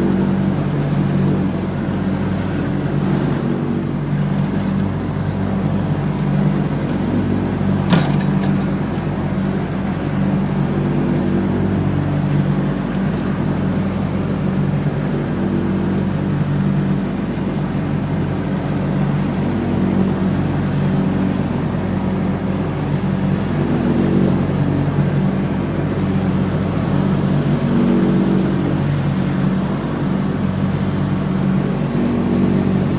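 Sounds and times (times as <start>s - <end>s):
ride-on lawn mower engine running: 0.0s - 32.9s.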